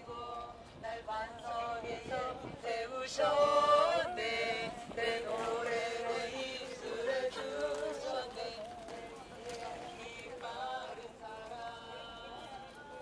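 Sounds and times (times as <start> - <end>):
man singing chant-like melody: 0.0 - 13.0.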